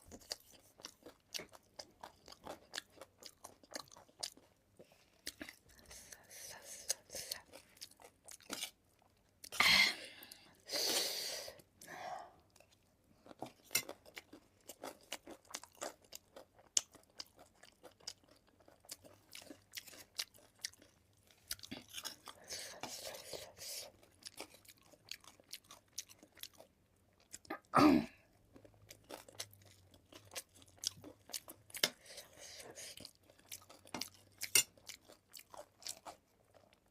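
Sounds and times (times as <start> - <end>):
chewing crunchy food: 0.0 - 10.6, 12.4 - 36.9.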